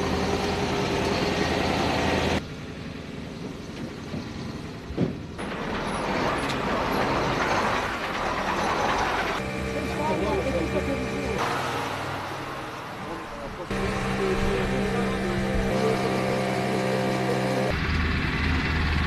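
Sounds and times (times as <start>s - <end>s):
truck diesel engine: 0.0s - 19.0s.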